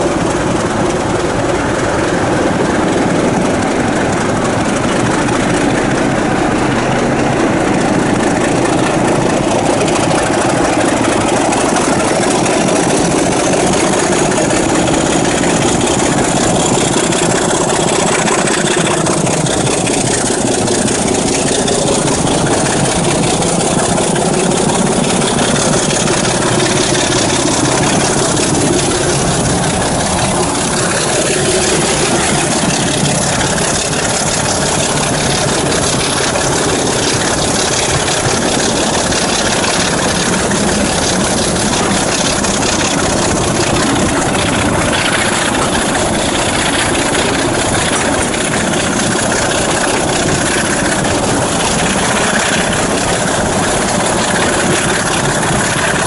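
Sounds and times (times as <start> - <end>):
diesel locomotive engine: 0.0 - 56.0
train wheels on rails: 0.0 - 56.0
wind rush on microphone: 0.0 - 56.0.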